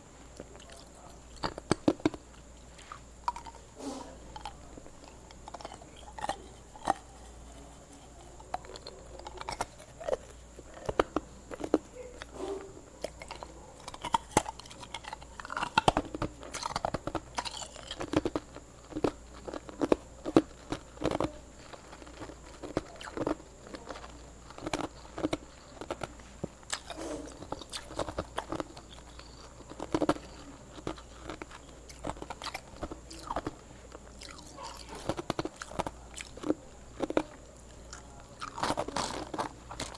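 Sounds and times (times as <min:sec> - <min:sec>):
chewing and crunching ice: 0:00.0 - 0:39.9.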